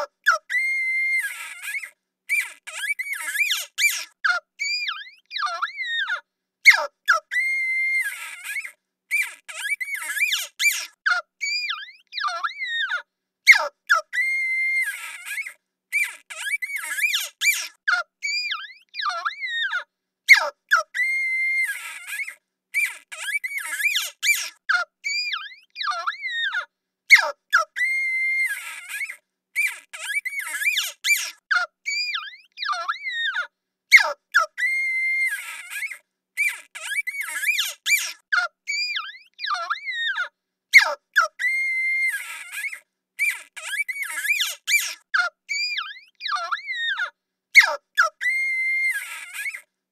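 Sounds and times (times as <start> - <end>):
monster squeaks and squeals: 0.0 - 49.7.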